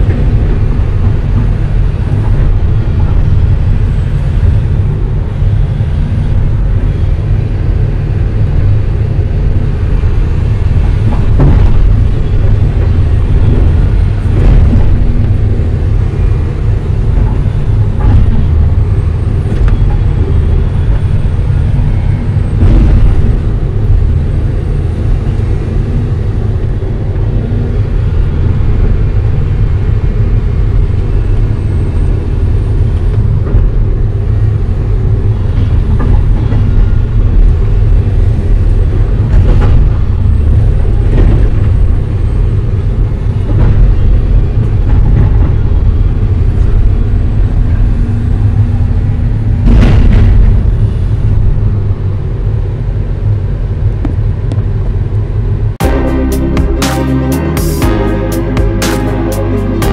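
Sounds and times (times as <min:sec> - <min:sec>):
excavator diesel engine drone: 0:00.0 - 0:59.9.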